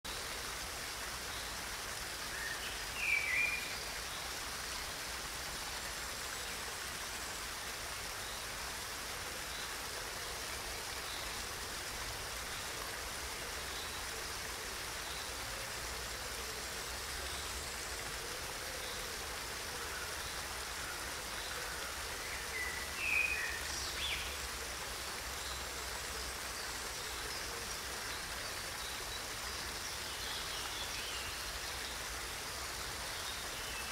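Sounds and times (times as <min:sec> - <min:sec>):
waterfall splashing over rocks: 0:00.0 - 0:33.9.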